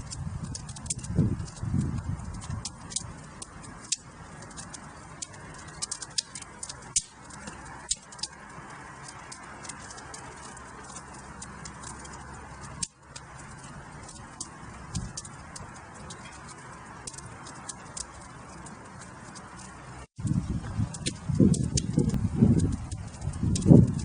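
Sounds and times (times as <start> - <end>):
fire crackling and popping: 0.0 - 24.0
soft rush of flame: 0.0 - 24.0.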